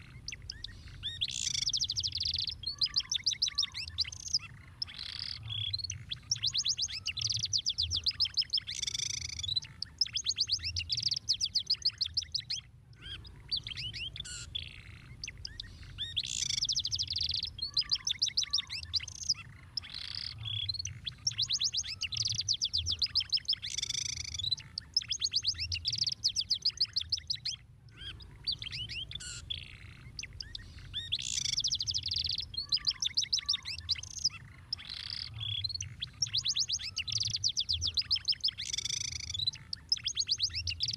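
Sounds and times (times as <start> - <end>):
canary song trills: 0.0 - 40.9.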